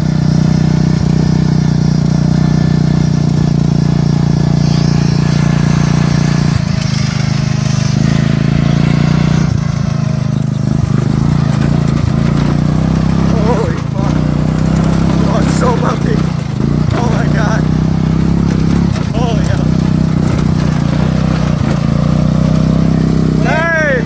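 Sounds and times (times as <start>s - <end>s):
small engine running at high throttle: 0.0s - 24.0s.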